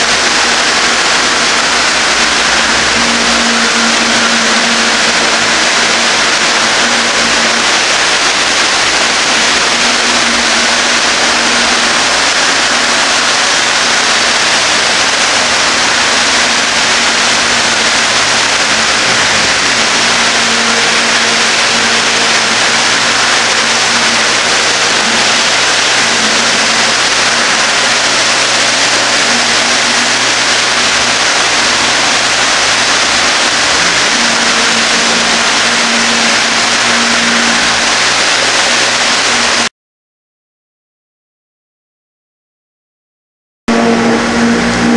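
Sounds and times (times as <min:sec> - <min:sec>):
vacuum system rushing air hiss: 0:00.0 - 0:39.6
faint hum: 0:00.0 - 0:39.7, 0:43.7 - 0:44.9.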